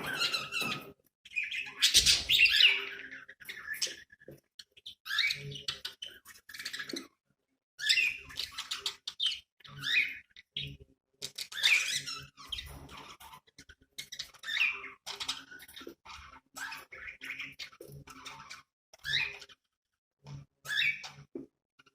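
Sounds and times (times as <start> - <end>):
budgerigars chirping: 0.0 - 7.2, 7.8 - 19.6, 20.6 - 21.3.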